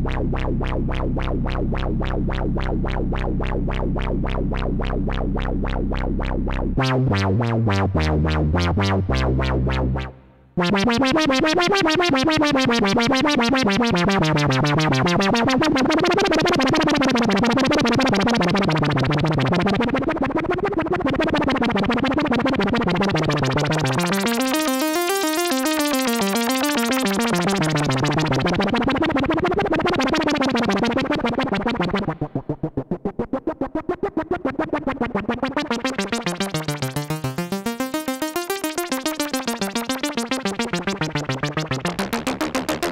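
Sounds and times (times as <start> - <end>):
synthesizer tone with filter sweeps: 0.0 - 42.9.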